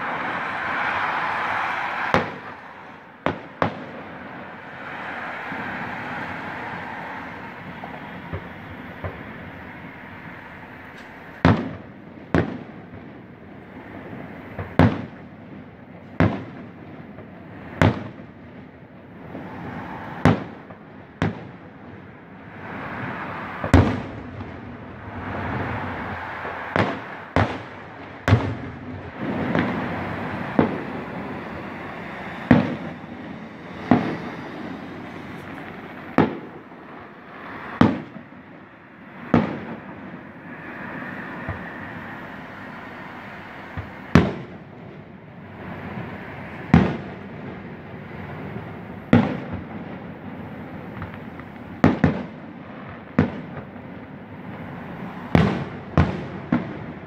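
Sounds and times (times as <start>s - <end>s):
continuous faint noise: 0.0s - 57.0s
fireworks bursting with sharp bangs: 0.0s - 57.0s.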